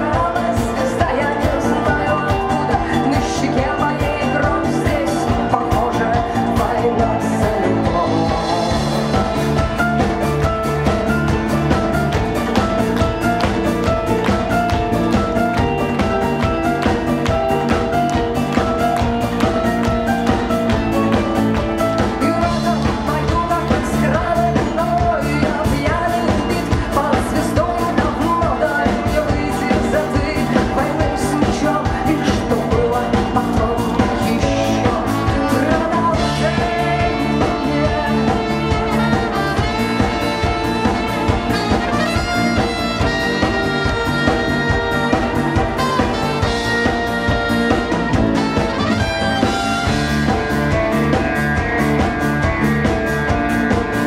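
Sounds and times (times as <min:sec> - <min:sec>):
bass guitar: 0:00.0 - 0:54.0
drum kit: 0:00.0 - 0:54.0
electric guitar: 0:00.0 - 0:54.0
sustained lead melody: 0:01.4 - 0:24.5, 0:33.9 - 0:54.0.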